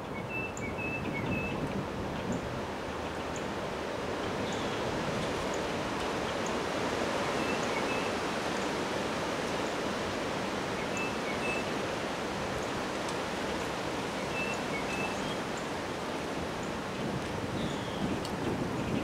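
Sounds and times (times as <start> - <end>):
strong wind through branches: 0.0 - 19.0.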